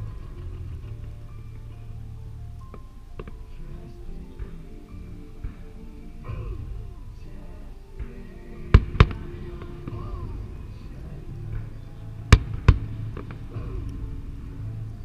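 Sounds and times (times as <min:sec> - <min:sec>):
soundtrack music: 0:00.0 - 0:15.0.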